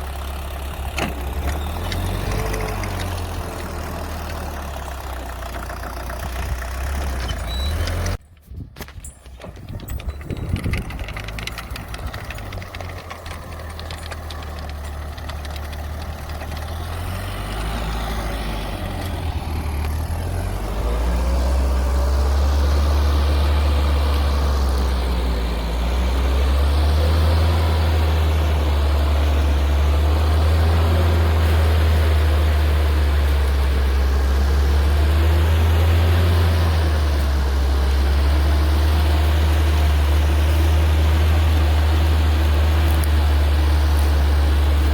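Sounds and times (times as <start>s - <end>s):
tiller engine running: 0.0s - 8.2s, 9.0s - 44.9s.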